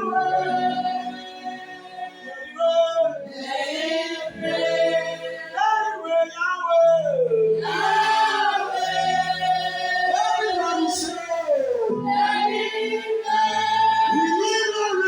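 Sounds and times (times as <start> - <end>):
mixed choir singing: 0.0 - 6.4, 7.0 - 15.0.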